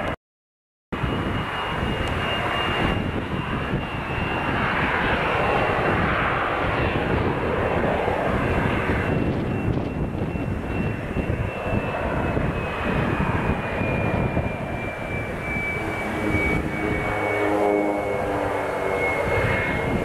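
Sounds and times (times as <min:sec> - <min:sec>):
propeller planes droning overhead: 0:01.0 - 0:20.0.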